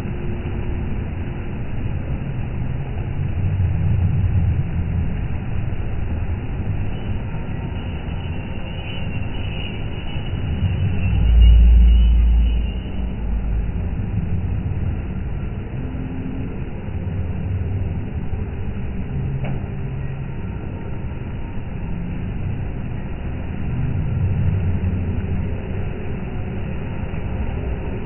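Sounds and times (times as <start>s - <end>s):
low rumble of traffic: 0.0s - 28.0s.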